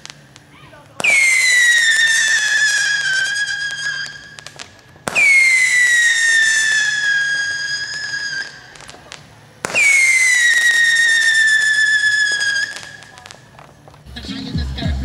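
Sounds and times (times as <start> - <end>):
whistling rockets: 0.0 - 14.1
rocket launch crack: 0.0 - 14.2.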